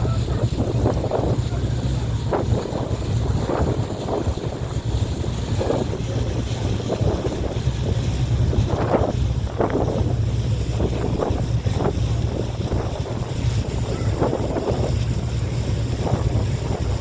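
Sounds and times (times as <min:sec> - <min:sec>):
boat engine drone: 0:00.0 - 0:17.0
water splashing against hull: 0:00.0 - 0:17.0
wind buffeting microphone: 0:00.0 - 0:17.0.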